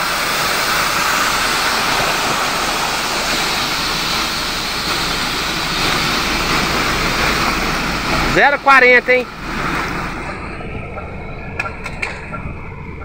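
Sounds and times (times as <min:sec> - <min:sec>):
floodwater rushing: 0:00.0 - 0:12.6
truck engine humming: 0:00.0 - 0:13.0.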